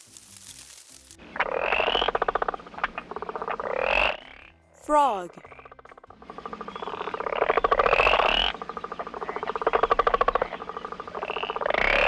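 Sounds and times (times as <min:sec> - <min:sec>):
frog croaking: 0:01.2 - 0:04.6, 0:05.4 - 0:12.0.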